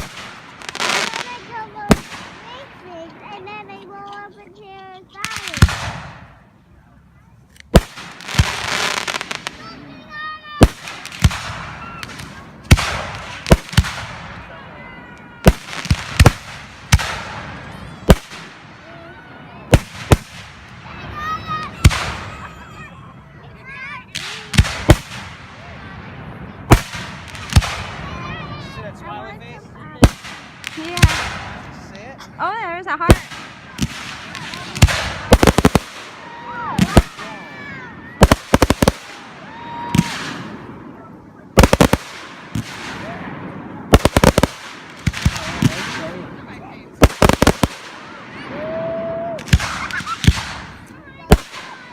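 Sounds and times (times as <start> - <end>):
fireworks bangs: 0.0 - 6.5, 7.6 - 22.9, 23.6 - 28.8, 30.0 - 31.9, 32.8 - 51.9
hissing crackle of fireworks: 0.0 - 6.5, 7.6 - 22.9, 23.6 - 28.8, 30.0 - 31.9, 33.0 - 51.9.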